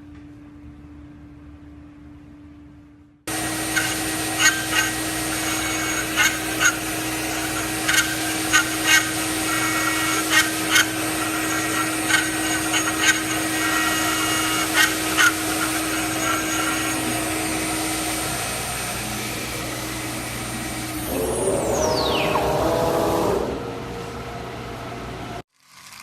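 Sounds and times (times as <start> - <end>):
machine humming: 3.3 - 25.4.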